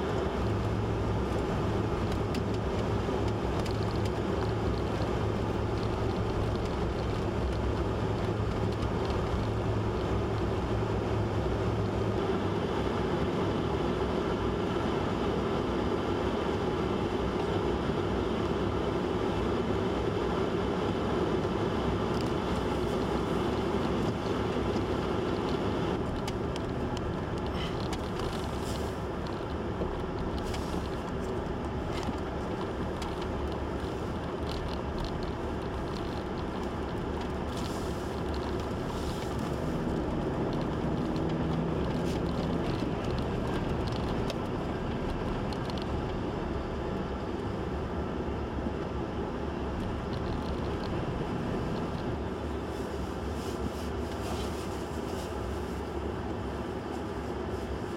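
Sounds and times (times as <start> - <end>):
blizzard wind: 0.0 - 57.9.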